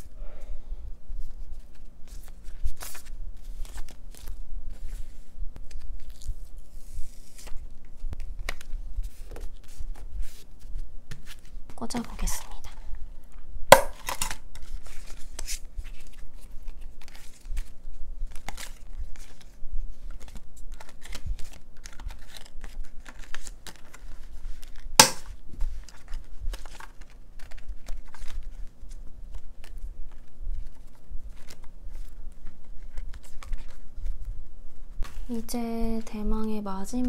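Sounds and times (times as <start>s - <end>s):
paper rustling and crinkling: 1.1s - 13.4s, 14.0s - 36.2s.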